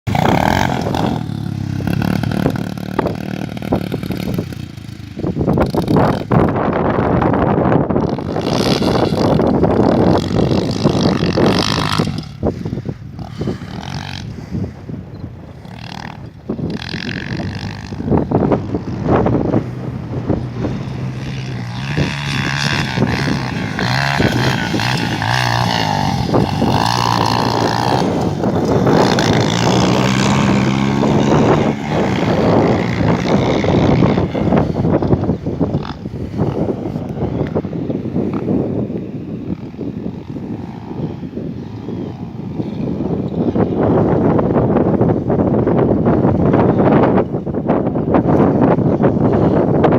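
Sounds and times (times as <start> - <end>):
motorcycle engines revving: 0.0 - 45.1.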